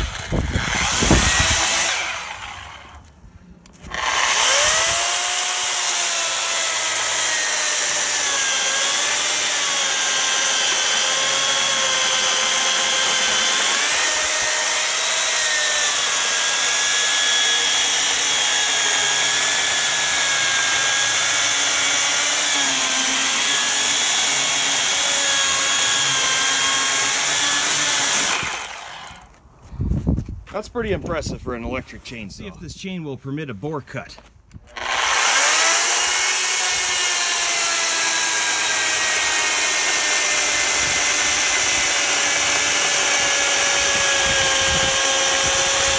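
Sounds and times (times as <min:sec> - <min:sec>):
electric chainsaw cutting log: 0:00.0 - 0:03.1, 0:03.7 - 0:29.4, 0:34.7 - 0:45.9.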